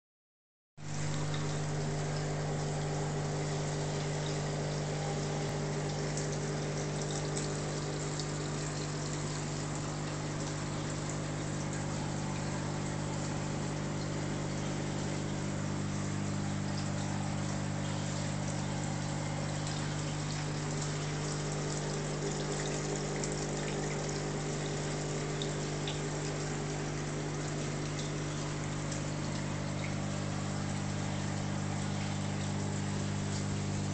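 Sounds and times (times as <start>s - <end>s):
aquarium pump humming: 0.8s - 33.9s.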